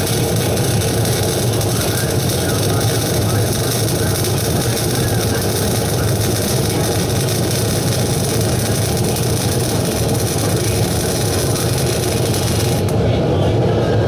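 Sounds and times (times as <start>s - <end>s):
welding arc hissing and crackling: 0.0s - 13.0s
low machine hum: 0.0s - 14.0s.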